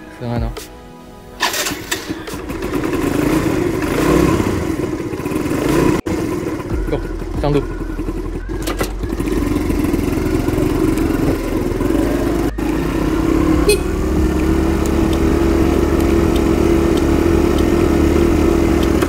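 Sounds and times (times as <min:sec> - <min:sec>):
scooter engine running: 0:01.5 - 0:19.0.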